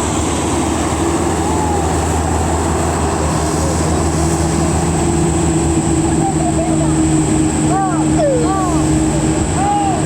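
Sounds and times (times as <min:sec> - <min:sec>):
bus diesel engine droning: 0:00.0 - 0:10.0.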